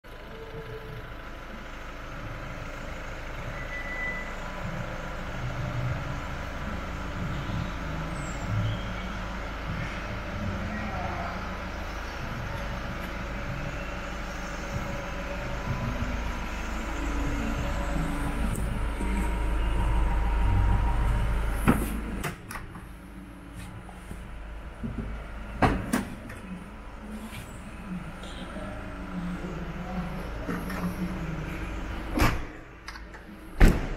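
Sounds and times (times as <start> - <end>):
van engine idling: 0.0 - 33.9
low rumble: 4.4 - 32.8.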